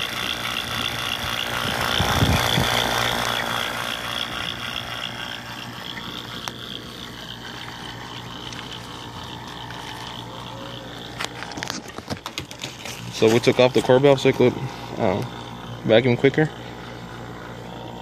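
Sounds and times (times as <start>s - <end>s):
vacuum pump whining and humming: 0.0s - 18.0s.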